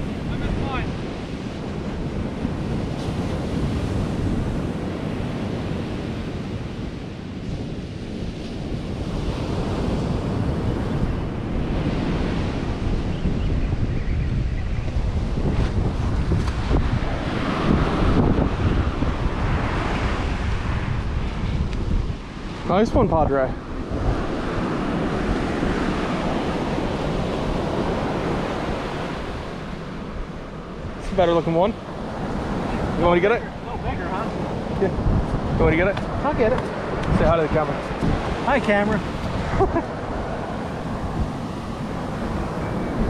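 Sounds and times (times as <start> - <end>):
ocean surf breaking: 0.0 - 13.8, 14.9 - 43.0
wind buffeting microphone: 0.0 - 43.0.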